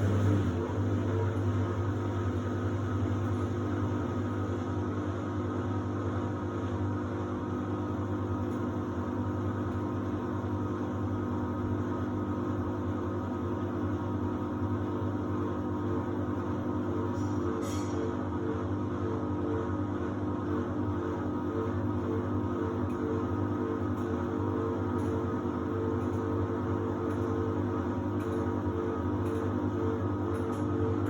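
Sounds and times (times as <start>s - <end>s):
washer-dryer humming: 0.0s - 31.0s.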